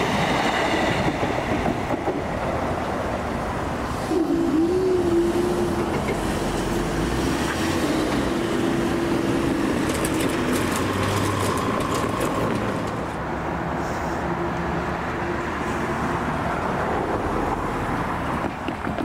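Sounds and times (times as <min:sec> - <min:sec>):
electric train on rails: 0:00.0 - 0:19.0
road traffic: 0:00.0 - 0:19.0.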